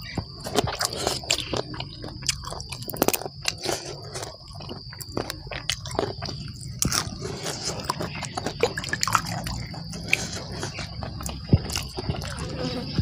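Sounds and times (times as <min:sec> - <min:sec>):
chewing and crunching: 0:00.0 - 0:13.0
high insect drone: 0:00.0 - 0:13.0.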